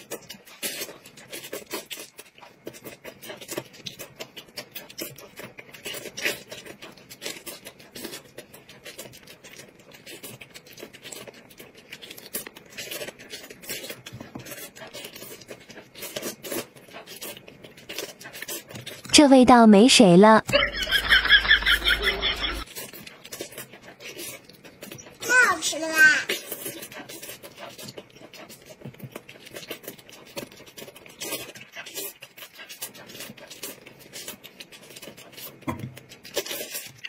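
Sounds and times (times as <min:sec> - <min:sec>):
meat tearing: 0:00.0 - 0:19.1, 0:20.5 - 0:37.0
wet chewing: 0:00.0 - 0:37.0.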